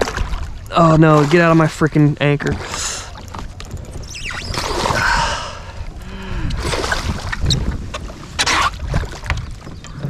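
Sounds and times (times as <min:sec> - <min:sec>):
fish thrashing and splashing: 0:00.0 - 0:05.9, 0:06.5 - 0:09.8.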